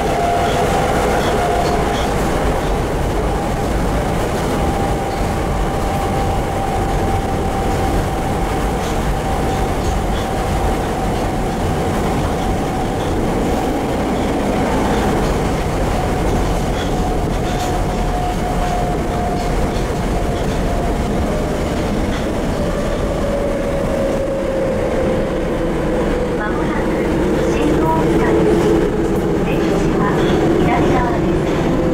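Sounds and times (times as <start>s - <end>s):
wheels rumbling on rail: 0.0s - 31.9s.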